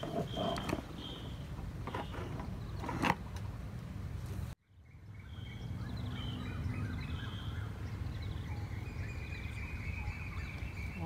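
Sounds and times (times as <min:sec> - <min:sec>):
birds chirping: 0:00.0 - 0:03.4, 0:04.4 - 0:11.0.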